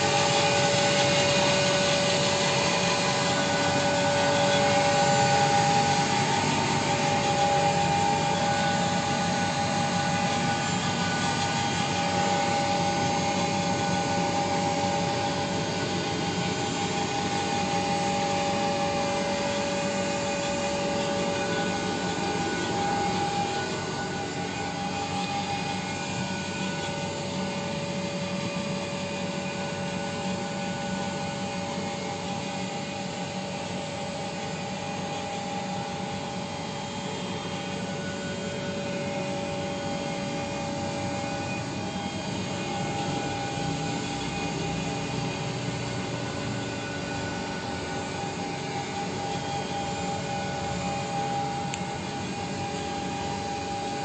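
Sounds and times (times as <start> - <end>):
high whine: 0.0 - 54.0
mechanical whir: 0.0 - 54.0.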